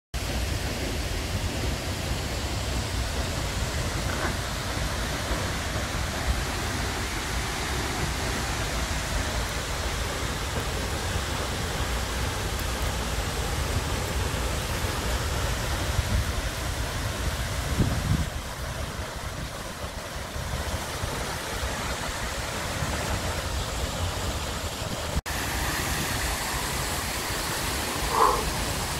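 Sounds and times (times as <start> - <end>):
waterfall rushing: 0.2 - 28.9.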